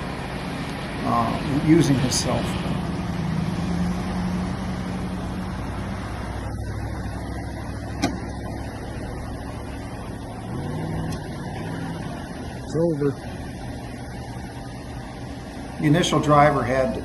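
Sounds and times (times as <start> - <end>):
road noise: 0.0 - 17.0
vehicle engine drone: 0.0 - 17.0.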